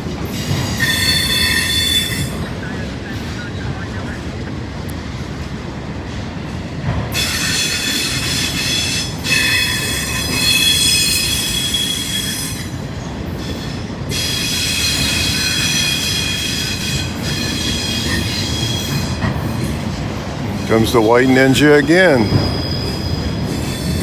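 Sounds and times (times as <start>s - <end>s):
low train rumble: 0.0s - 24.0s
train wheels squealing: 0.3s - 4.1s, 7.1s - 24.0s.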